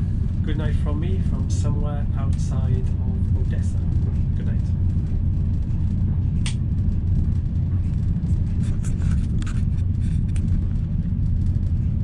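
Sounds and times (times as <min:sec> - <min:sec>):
train rumble from inside: 0:00.0 - 0:12.0
faint rattles: 0:00.2 - 0:12.0.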